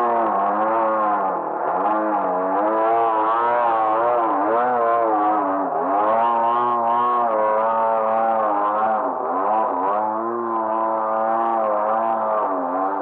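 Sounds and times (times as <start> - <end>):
model plane motor and propeller: 0.0 - 13.0.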